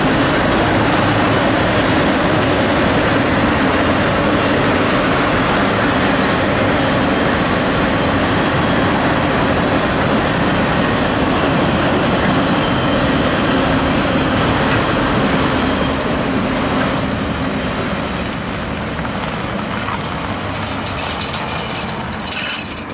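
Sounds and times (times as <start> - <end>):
train wheels rolling on track: 0.0 - 22.9.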